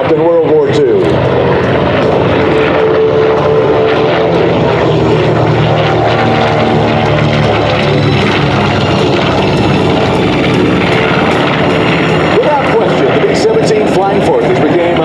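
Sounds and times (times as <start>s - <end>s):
propeller engine drone: 0.0s - 15.0s.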